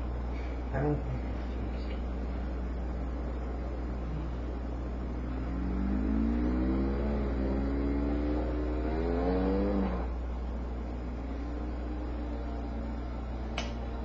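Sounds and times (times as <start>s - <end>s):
motorcycle engine revving: 2.2s - 14.0s.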